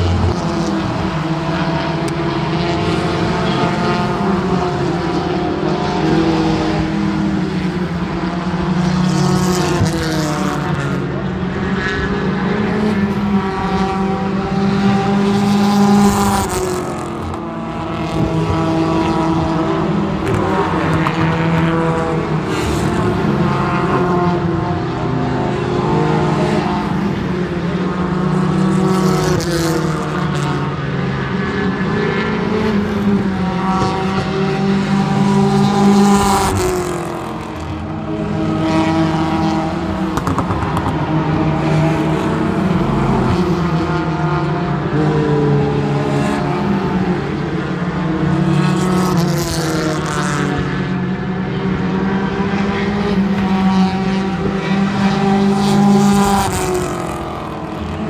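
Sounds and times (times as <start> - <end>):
race car engines revving: 0.0 - 58.0.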